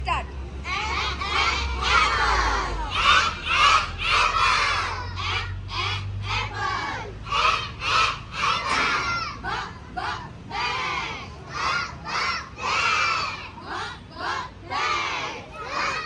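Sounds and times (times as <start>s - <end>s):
children chanting in unison: 0.7s - 16.0s.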